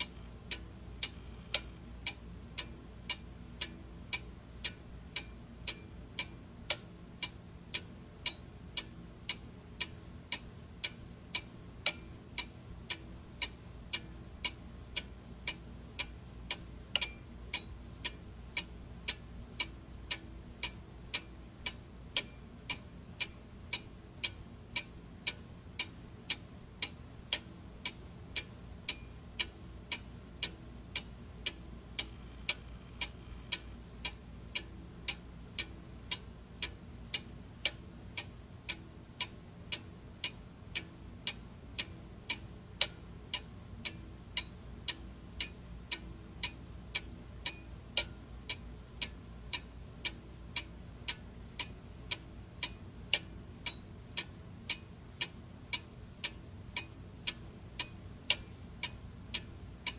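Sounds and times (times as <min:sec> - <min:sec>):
clock ticking: 0:00.0 - 0:59.9
faint low hum: 0:00.0 - 0:59.9.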